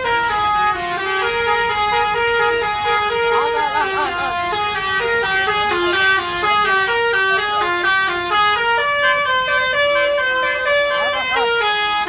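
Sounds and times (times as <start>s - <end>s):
bus horn playing melody: 0.0s - 12.0s.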